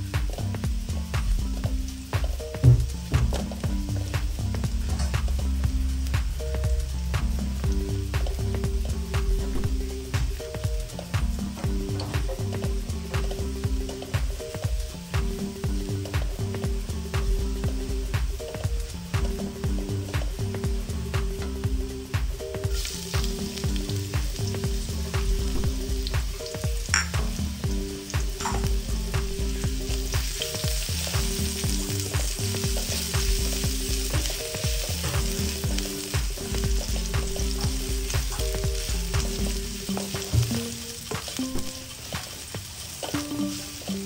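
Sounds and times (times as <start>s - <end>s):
garlic and ginger sizzling in oil: 0.0s - 44.0s.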